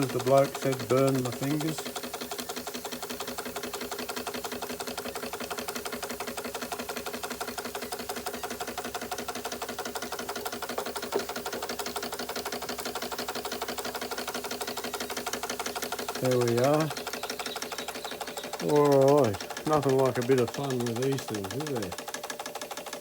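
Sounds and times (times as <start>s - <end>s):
toy steam engine clattering: 0.0s - 23.0s.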